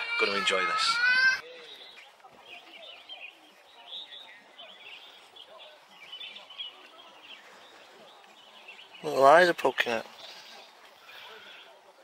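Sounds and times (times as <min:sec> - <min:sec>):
murmur of distant voices: 0:00.0 - 0:12.0
faint birds chirping: 0:00.2 - 0:12.0.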